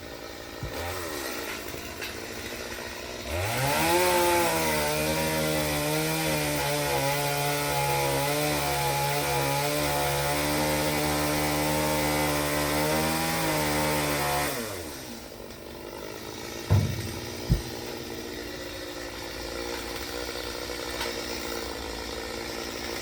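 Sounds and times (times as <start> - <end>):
chainsaw at high revs: 0.0 - 23.0.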